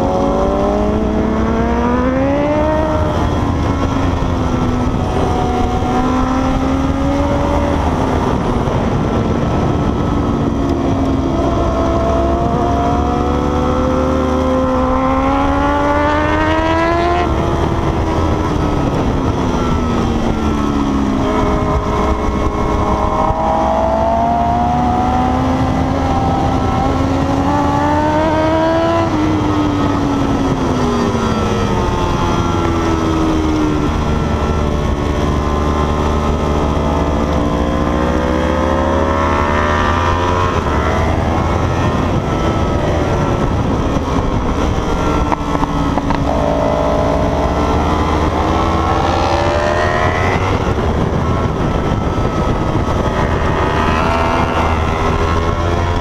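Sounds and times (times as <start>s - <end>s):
sport motorcycle engine: 0.0s - 56.0s
steady wind rush: 0.0s - 56.0s.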